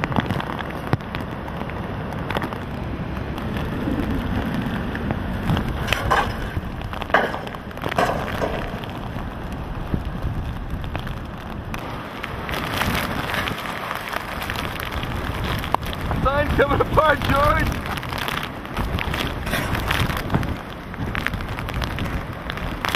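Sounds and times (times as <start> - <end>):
driving rain: 0.0 - 22.9
wind buffeting microphone: 0.0 - 22.9.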